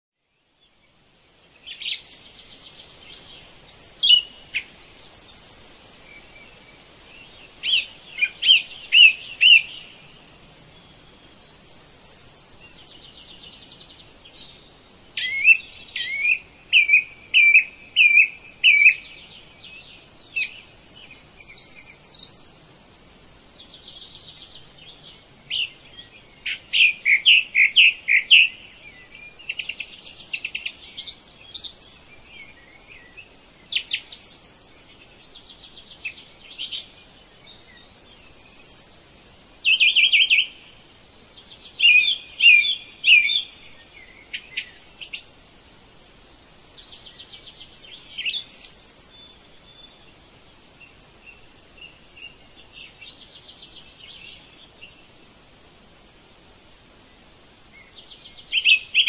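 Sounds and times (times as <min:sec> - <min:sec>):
birds singing: 0:00.1 - 0:59.0.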